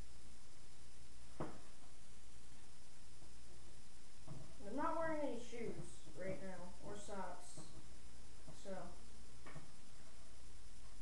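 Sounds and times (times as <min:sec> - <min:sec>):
background hiss: 0:00.0 - 0:11.0
low hum: 0:00.0 - 0:11.0.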